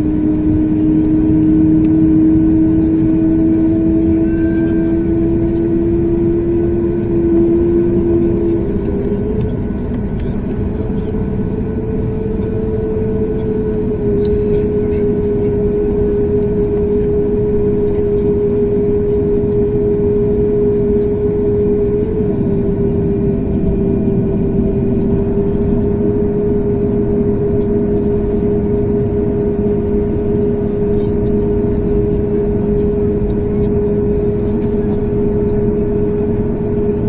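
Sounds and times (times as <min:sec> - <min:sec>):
jet cabin engine rush: 0:00.0 - 0:37.0.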